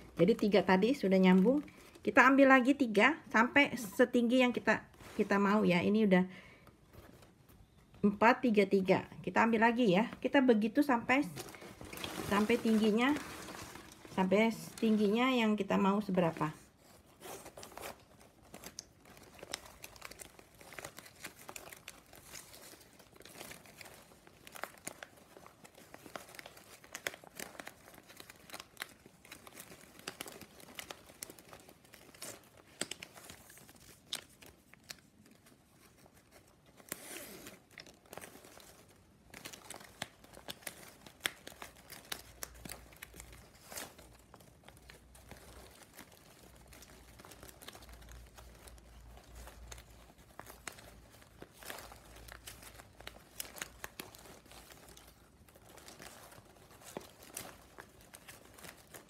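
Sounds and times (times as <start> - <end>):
plastic strapping ticking and rustling: 8.9 - 59.0.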